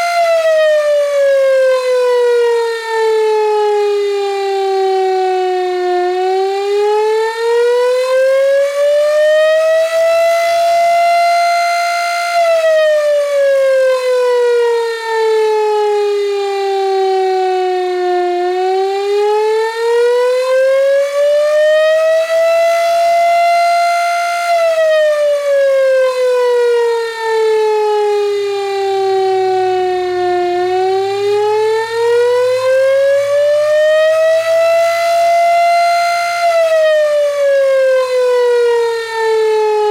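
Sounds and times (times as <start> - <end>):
rising and falling siren: 0.0 - 39.9.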